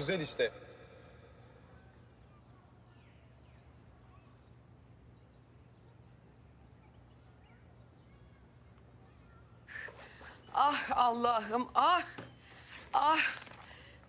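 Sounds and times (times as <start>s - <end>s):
faint bird chirps: 0.9s - 13.7s.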